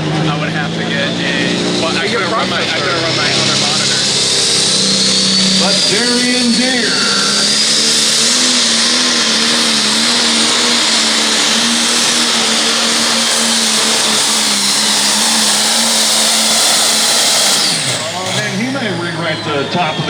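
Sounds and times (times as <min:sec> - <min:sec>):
diesel tractor engine at full throttle: 0:00.0 - 0:20.0.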